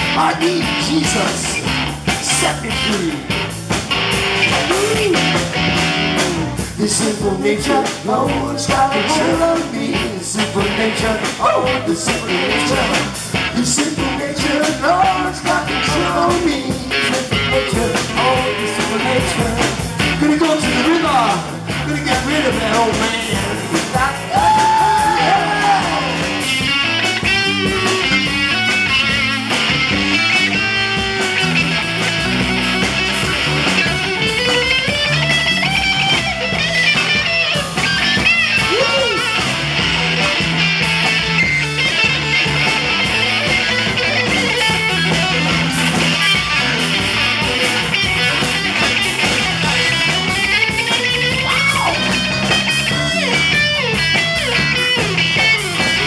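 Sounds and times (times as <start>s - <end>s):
bass guitar: 0.0s - 56.0s
lead electric guitar melody: 0.0s - 56.0s
steady drum kit beat: 0.0s - 56.0s.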